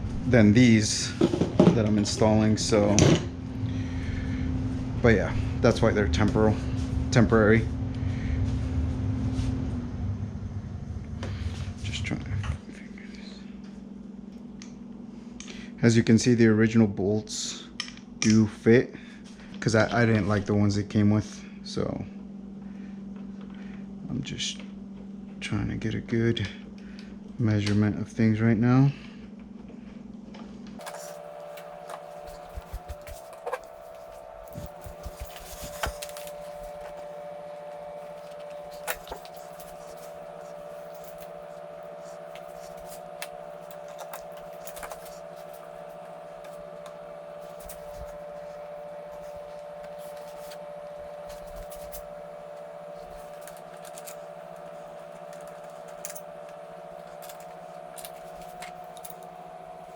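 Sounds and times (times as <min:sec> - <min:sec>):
steady hum: 0:00.0 - 0:27.4, 0:28.0 - 0:59.9.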